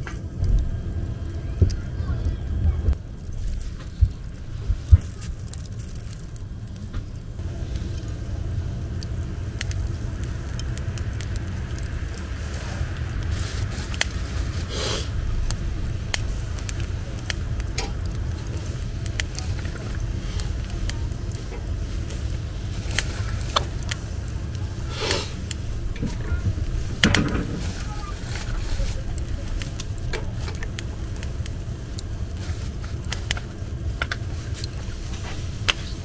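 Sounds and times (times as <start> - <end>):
coals and shells crackling: 0.0 - 36.0
grill hissing: 0.0 - 36.0
low rumble: 0.0 - 36.0.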